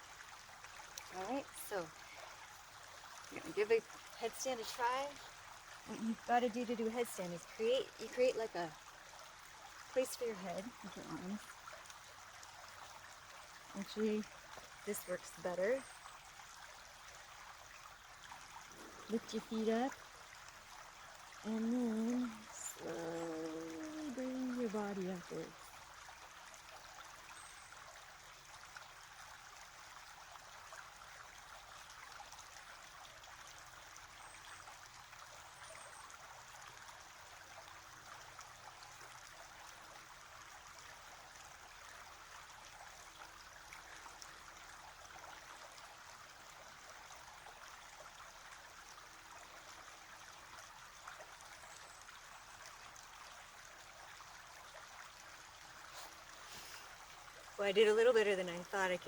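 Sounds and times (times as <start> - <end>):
faint running water: 0.0 - 59.0.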